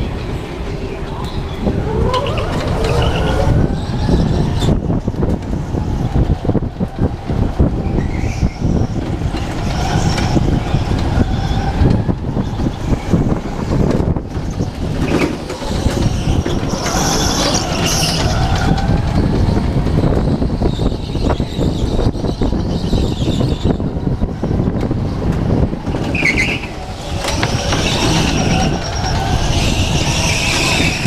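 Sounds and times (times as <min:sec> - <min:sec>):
go-kart engine rumble: 0:00.0 - 0:31.0.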